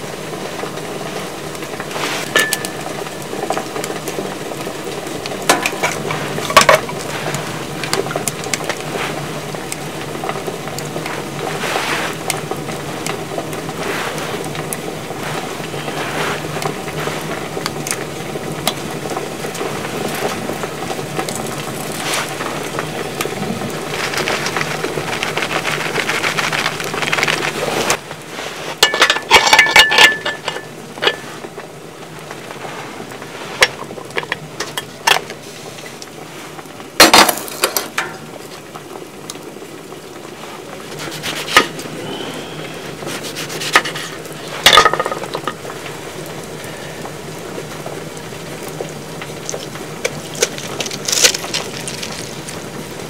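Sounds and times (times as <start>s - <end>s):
wood stove crackling: 0.0s - 53.0s
shredded cheese rustling: 0.8s - 29.8s, 30.6s - 34.6s, 39.7s - 44.7s, 47.8s - 53.0s.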